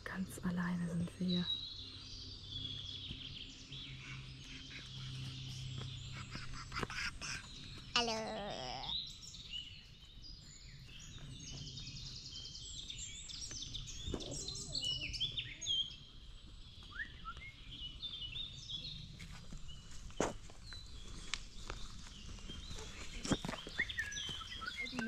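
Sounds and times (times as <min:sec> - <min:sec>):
songbirds singing and chirping: 0:00.0 - 0:25.0.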